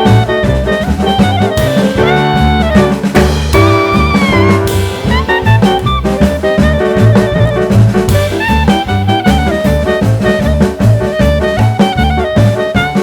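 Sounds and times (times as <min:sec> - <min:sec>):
upbeat jazz music: 0:00.0 - 0:13.0.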